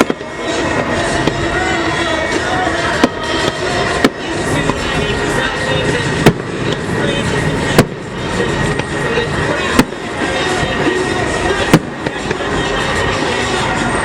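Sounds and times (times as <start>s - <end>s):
crowd voices: 0.0s - 14.0s
fireworks exploding: 0.0s - 14.0s
music: 0.0s - 14.0s.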